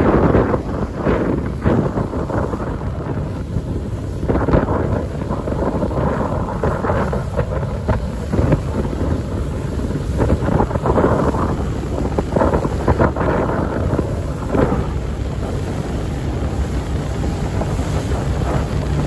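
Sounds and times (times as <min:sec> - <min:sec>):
sea: 0:00.0 - 0:19.0
ship running noise: 0:00.0 - 0:19.0
wind buffeting microphone: 0:00.0 - 0:19.0.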